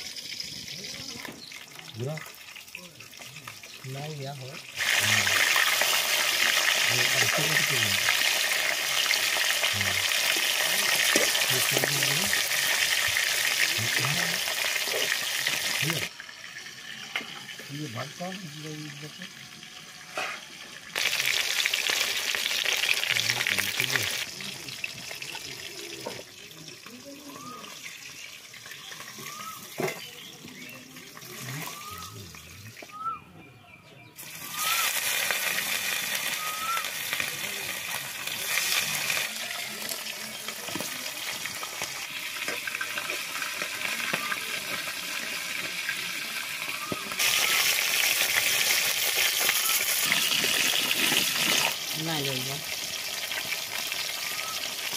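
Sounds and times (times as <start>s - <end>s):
fish frying in hot oil: 0.0s - 32.9s, 34.2s - 54.9s.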